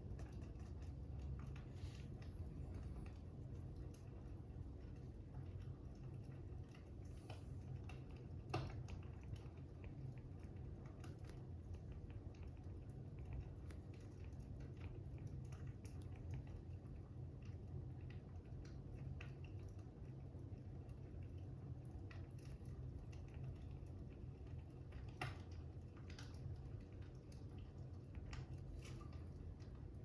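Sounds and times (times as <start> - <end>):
fire crackling and popping: 0.0 - 30.0
steady low rumble: 0.0 - 30.0.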